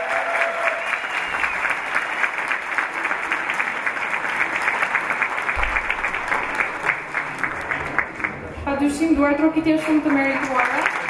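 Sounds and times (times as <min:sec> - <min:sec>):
audience applauding: 0:00.0 - 0:08.6, 0:09.7 - 0:11.0.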